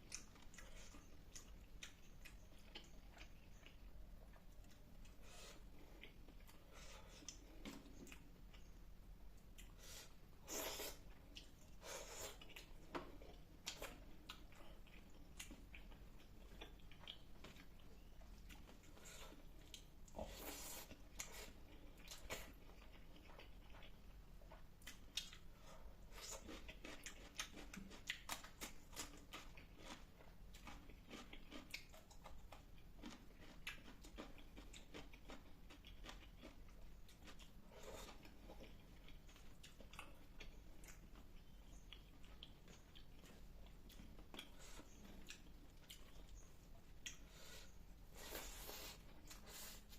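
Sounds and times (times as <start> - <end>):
faint close-up chewing: 0.0 - 49.9.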